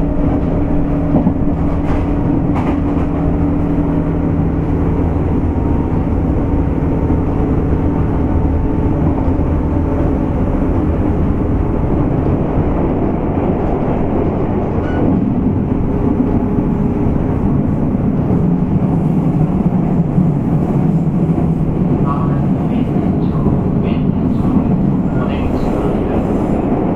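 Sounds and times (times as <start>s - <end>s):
train wheels rumbling on rail: 0.0s - 26.9s.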